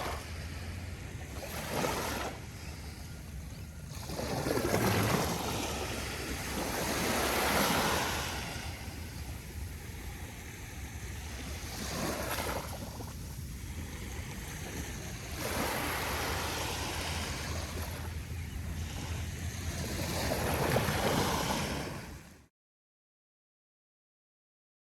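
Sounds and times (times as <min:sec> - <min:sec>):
wind rumble on microphone: 0:00.0 - 0:22.4
gentle ocean waves washing: 0:00.0 - 0:22.5.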